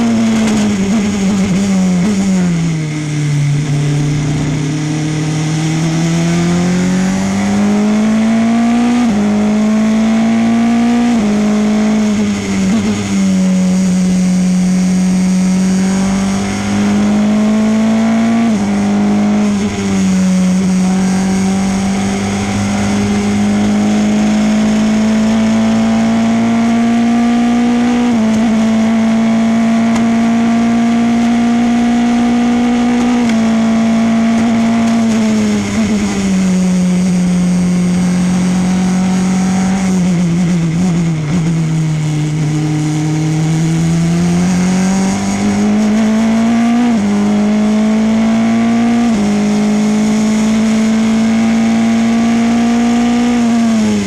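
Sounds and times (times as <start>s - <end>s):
race car engine revving: 0.0s - 54.0s
wind and road noise: 0.0s - 54.0s.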